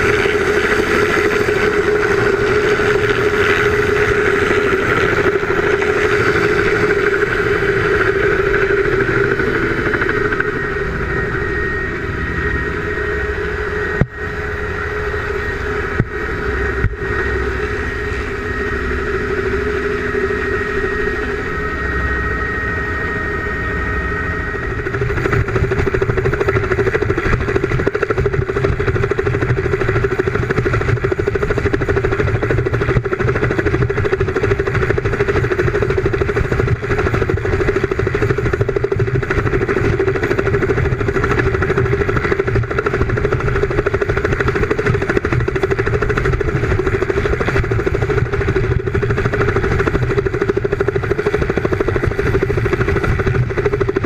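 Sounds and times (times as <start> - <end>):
helicopter hovering: 0.0 - 54.0.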